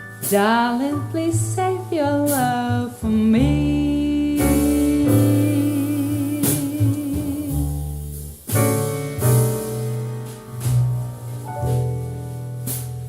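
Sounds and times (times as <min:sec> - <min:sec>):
slow ballad on piano bass and drums: 0:00.0 - 0:13.0.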